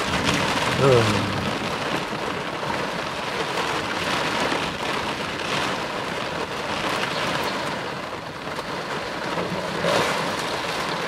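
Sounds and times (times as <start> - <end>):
heavy rain on car windshield: 0.0 - 11.0.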